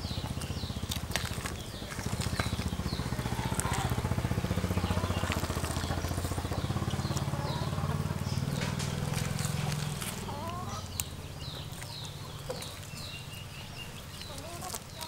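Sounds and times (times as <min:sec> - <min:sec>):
small engine running: 0:00.0 - 0:13.8.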